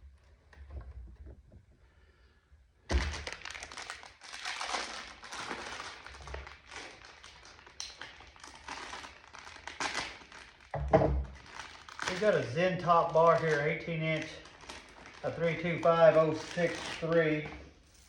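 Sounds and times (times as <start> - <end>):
crinkling and rustling: 2.9 - 18.0.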